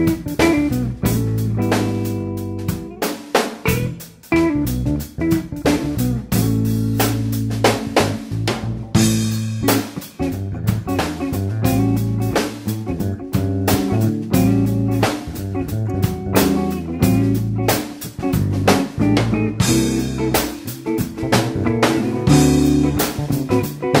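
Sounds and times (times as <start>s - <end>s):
music with guitar and drums: 0.0s - 24.0s.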